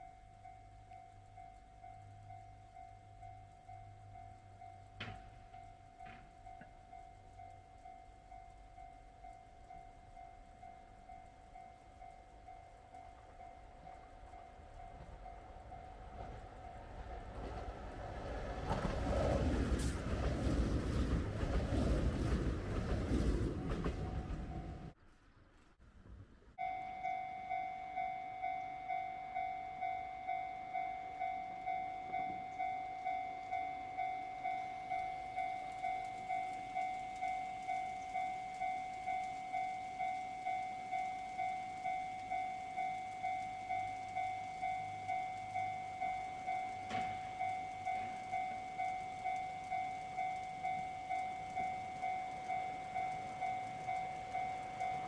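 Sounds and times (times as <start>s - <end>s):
two-tone crossing warning bell: 0.0s - 25.0s, 26.6s - 55.0s.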